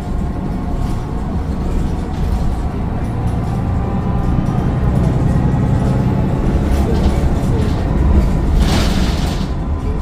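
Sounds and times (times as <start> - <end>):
diesel bus engine drone: 0.0 - 10.0.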